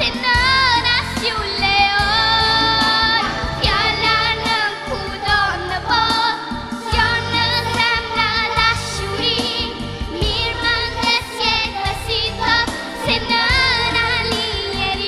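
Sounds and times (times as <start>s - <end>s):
girl singing into a microphone: 0.0s - 15.0s
pop backing track with bass: 0.0s - 15.0s.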